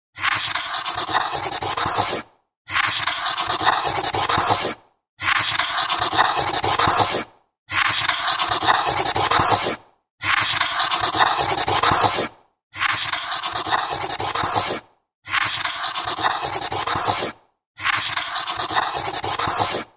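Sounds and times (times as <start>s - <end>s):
marker pen writing on paper: 0.2s - 19.9s.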